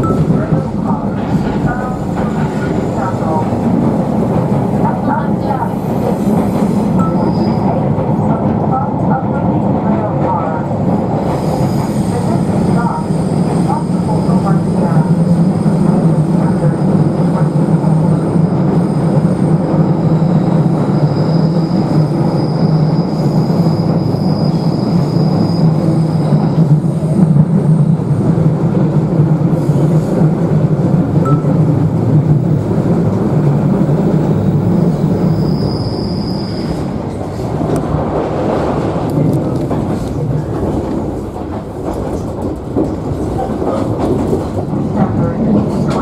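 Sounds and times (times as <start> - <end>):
train rumbling on rails: 0.0 - 46.0.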